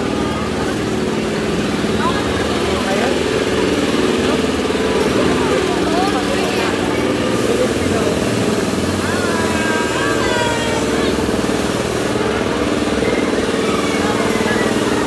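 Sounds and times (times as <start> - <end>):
engine running: 0.0 - 15.0
voices: 0.0 - 15.0.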